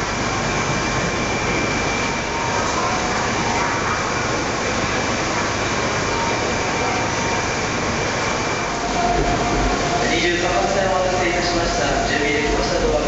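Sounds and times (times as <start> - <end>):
train equipment hum and hiss: 0.0 - 13.0.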